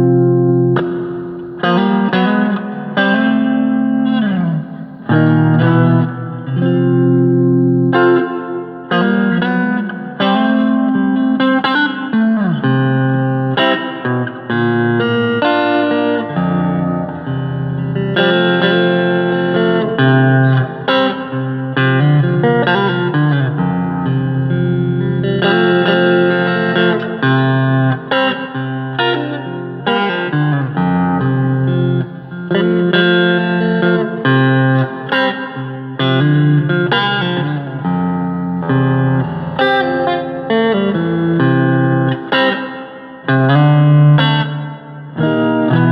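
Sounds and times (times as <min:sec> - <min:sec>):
electric guitar playing: 0:00.0 - 0:45.9.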